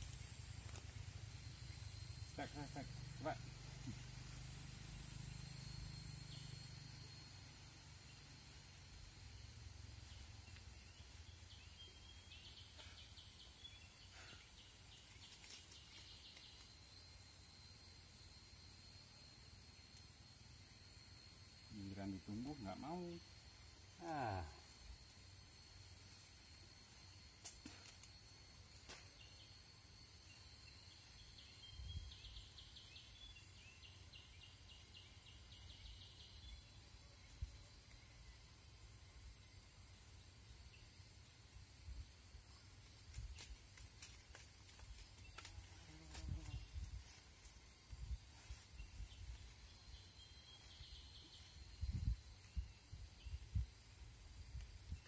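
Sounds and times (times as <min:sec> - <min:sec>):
high-pitched insect drone: 0:00.0 - 0:55.0
insect chirps: 0:00.0 - 0:55.0.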